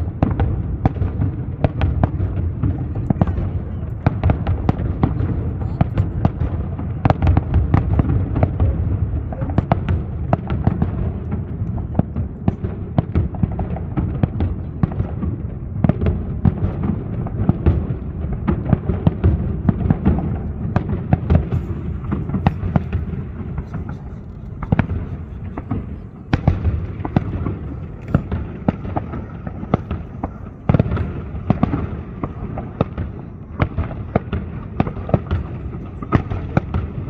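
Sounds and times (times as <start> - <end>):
fireworks bursting and crackling: 0.0 - 37.0.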